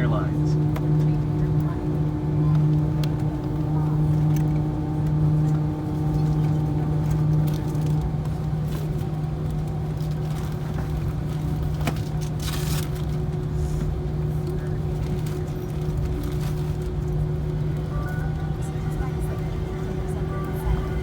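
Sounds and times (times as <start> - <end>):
aircraft cabin drone: 0.0 - 21.0.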